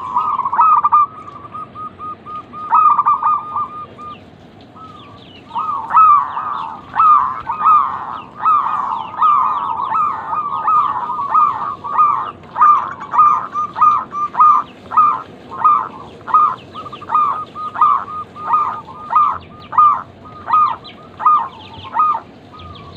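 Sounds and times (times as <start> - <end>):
doves cooing: 0.0 - 22.9.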